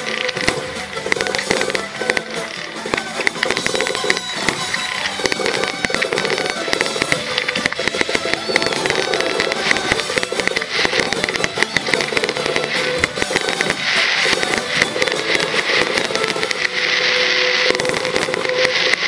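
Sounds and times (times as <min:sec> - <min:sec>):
fireworks crackling and popping: 0:00.0 - 0:19.0
music playing: 0:00.0 - 0:19.0.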